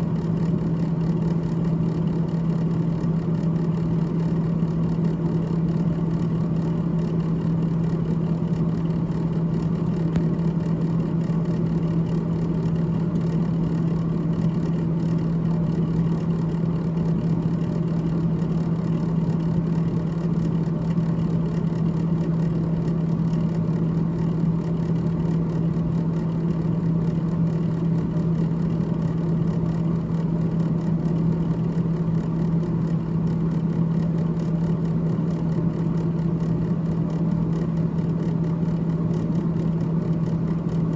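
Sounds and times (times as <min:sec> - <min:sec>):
freezer fan humming and whirring: 0:00.0 - 0:40.9.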